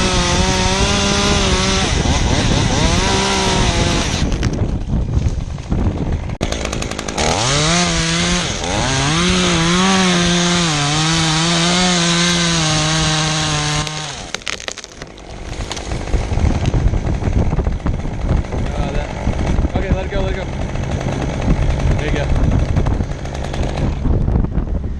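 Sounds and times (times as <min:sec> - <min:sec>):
chainsaw cutting wood: 0:00.0 - 0:24.3.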